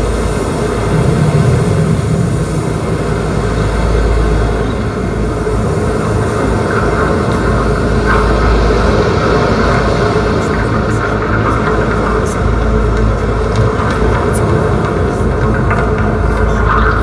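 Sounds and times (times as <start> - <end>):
deep rumbling drone soundtrack: 0.0 - 17.0.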